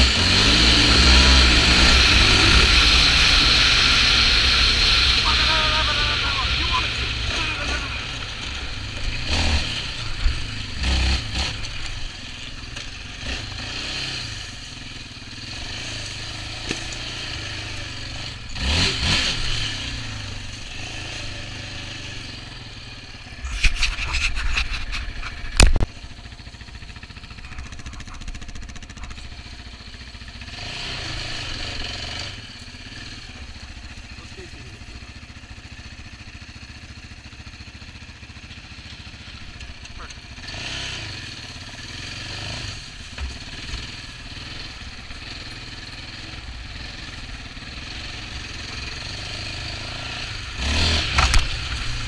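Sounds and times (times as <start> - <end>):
quad engine running: 0.0 - 52.0.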